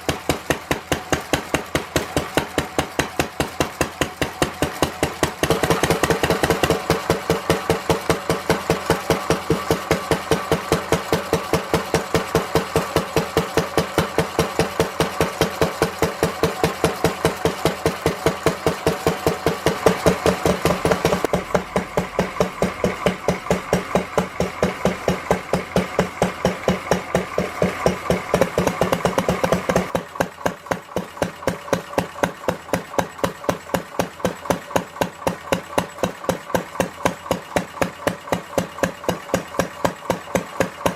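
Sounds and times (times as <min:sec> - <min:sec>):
stationary engine chugging: 0:00.0 - 0:40.9.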